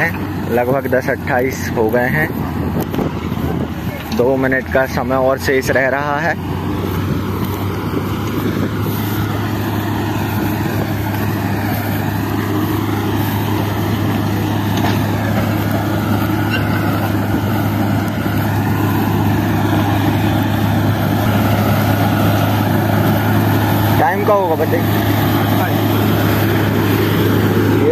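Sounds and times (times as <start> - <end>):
tractor diesel engine running: 0.0 - 27.9.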